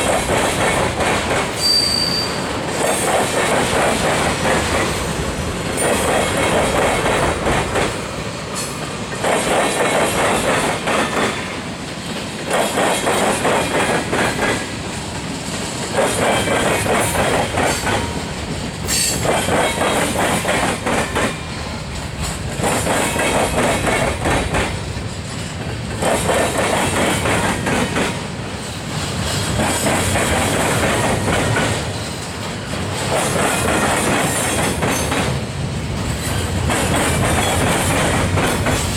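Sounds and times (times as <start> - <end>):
train wheels clattering over joints: 0.0 - 38.9.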